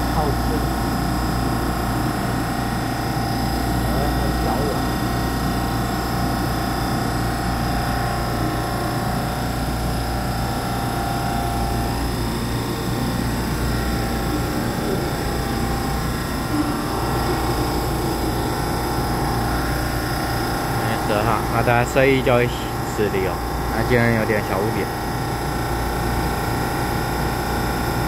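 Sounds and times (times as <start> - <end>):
electric train humming: 0.0 - 28.0.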